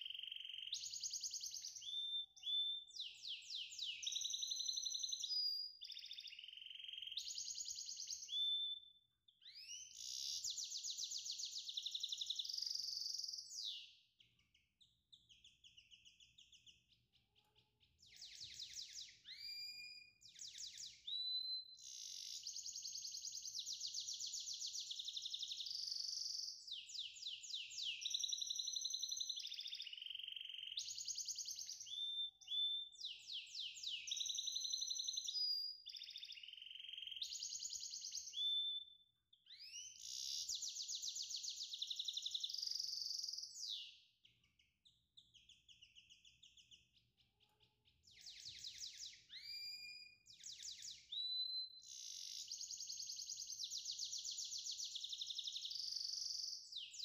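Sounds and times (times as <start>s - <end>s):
songbird trilling and chirping: 0.0s - 57.0s.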